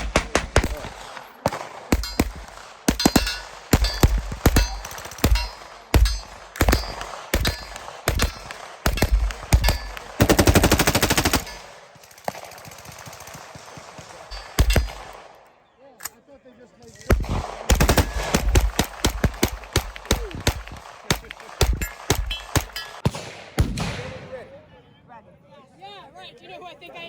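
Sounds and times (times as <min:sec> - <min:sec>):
rapid gunfire burst: 0:00.0 - 0:15.3, 0:17.0 - 0:23.9
gunshots: 0:00.0 - 0:15.4, 0:16.8 - 0:24.6.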